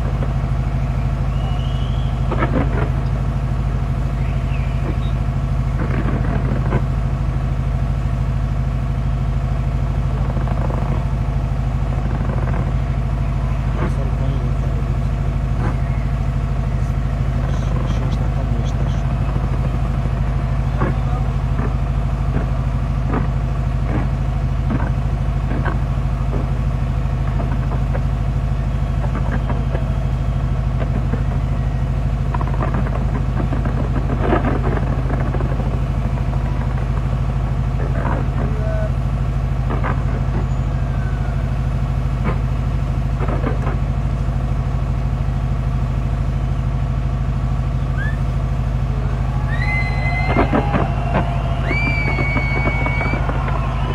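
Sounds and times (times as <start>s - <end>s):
fireworks bangs and crackling: 0.0s - 46.5s, 47.4s - 53.9s
fireworks low rumble: 0.0s - 53.9s.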